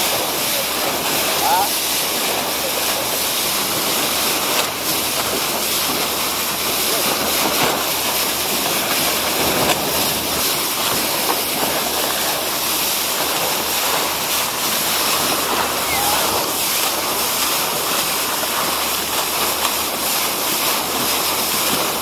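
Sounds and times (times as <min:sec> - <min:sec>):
boat bow wave splashing: 0:00.0 - 0:22.0.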